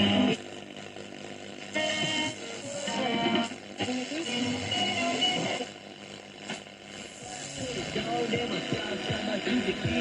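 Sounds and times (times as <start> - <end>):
music through radio loudspeaker: 0.0 - 10.0.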